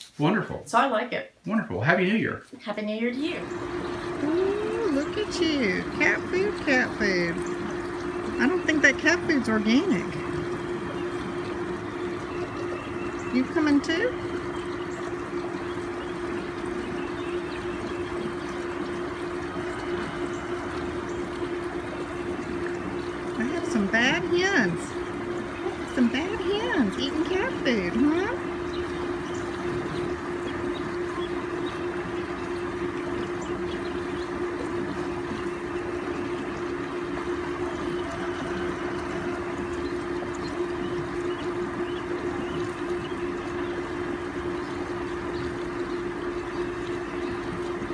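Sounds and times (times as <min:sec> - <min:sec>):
machine hum: 0:01.5 - 0:47.9.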